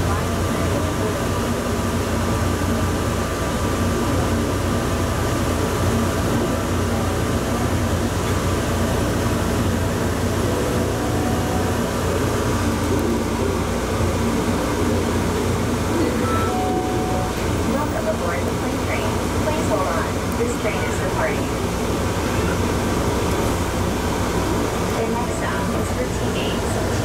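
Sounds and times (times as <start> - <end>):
train rumble and hiss: 0.0 - 27.0.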